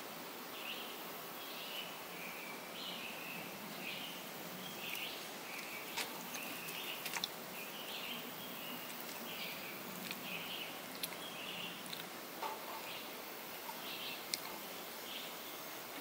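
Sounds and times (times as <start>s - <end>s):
bird chirping: 0.5s - 16.0s.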